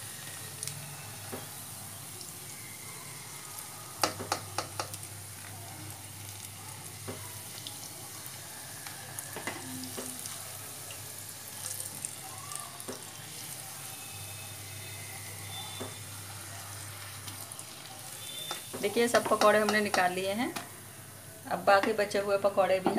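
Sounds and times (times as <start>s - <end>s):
food deep-frying in hot oil: 0.0s - 22.9s.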